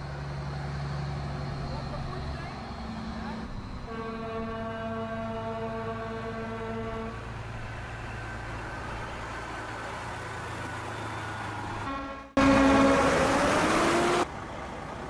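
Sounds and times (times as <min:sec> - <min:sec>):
loud vehicle sound: 0:00.0 - 0:04.7, 0:05.3 - 0:15.0
truck engine humming: 0:00.0 - 0:15.0.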